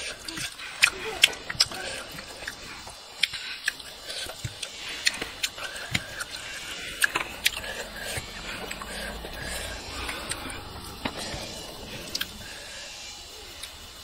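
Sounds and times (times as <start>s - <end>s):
chewing clicks and smacks: 0.0s - 12.4s.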